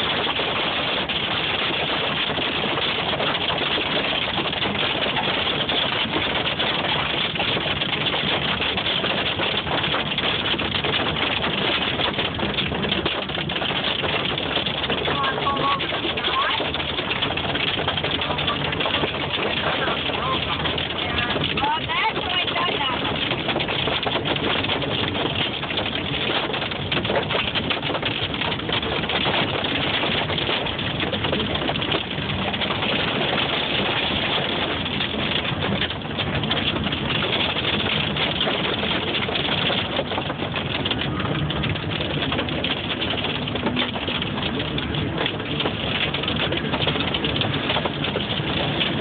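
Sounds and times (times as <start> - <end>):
heavy hail on car roof: 0.0 - 49.0.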